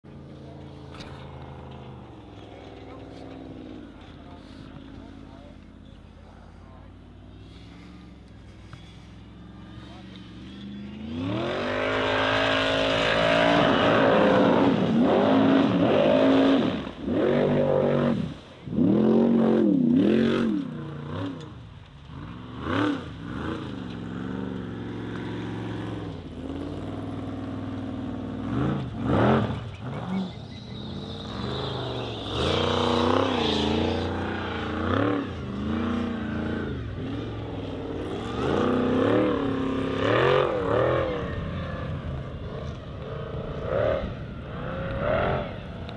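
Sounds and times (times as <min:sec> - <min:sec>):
buggy engine revving hard: 0:07.3 - 0:45.9.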